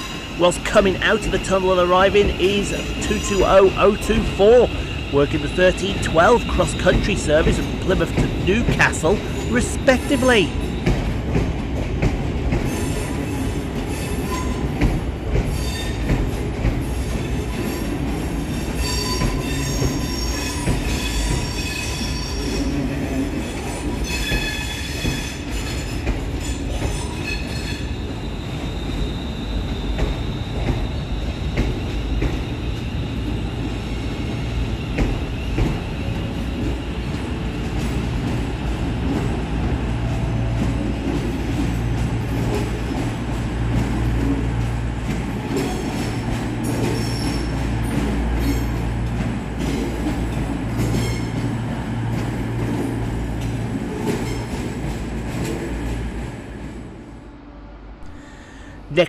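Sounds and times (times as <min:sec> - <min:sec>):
train wheels squealing on track: 0:00.0 - 0:11.2, 0:12.6 - 0:38.4, 0:44.6 - 0:55.9.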